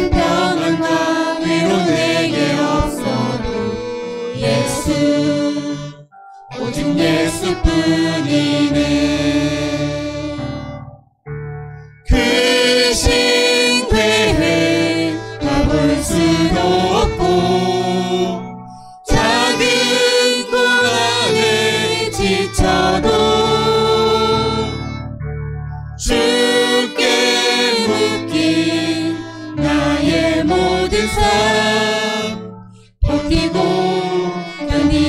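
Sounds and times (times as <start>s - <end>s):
group singing worship song: 0.0s - 6.0s, 6.6s - 10.4s, 12.1s - 24.9s, 26.0s - 32.5s, 33.1s - 35.0s
instrumental accompaniment: 0.0s - 35.0s.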